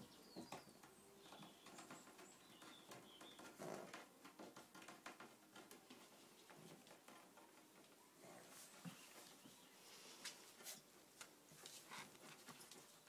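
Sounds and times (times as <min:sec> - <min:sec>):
puppies scuffling: 0:00.6 - 0:13.0.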